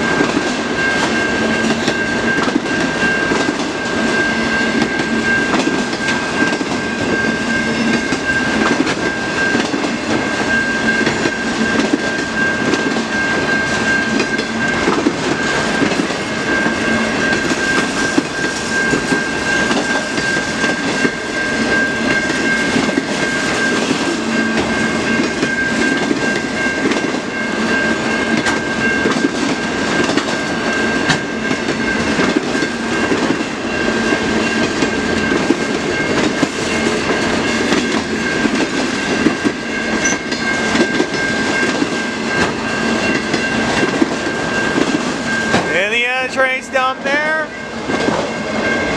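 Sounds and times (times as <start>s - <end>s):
train wheels clattering on rails: 0.0s - 46.0s, 46.7s - 48.9s
steady high ringing tone: 0.0s - 48.9s.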